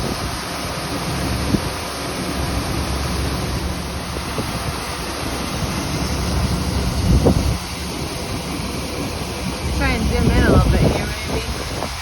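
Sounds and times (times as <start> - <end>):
tractor engine rumble: 0.0 - 12.0
wind noise on microphone: 0.0 - 12.0.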